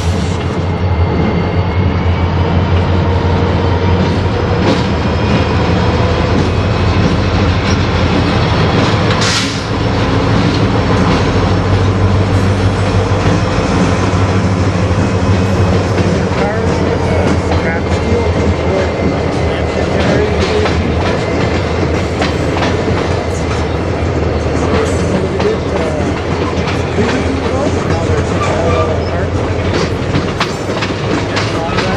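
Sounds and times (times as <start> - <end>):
diesel locomotives running: 0.0 - 31.9.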